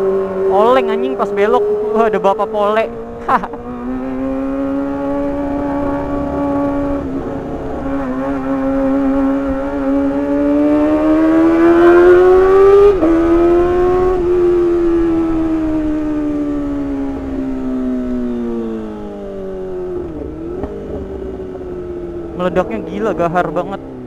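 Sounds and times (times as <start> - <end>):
motorcycle engine revving high: 0.0 - 24.0
wind rumble: 0.0 - 24.0.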